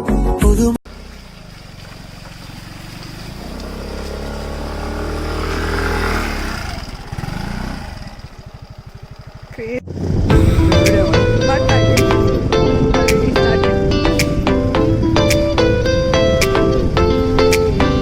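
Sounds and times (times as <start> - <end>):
motor vehicle engine running: 0.9 - 18.0.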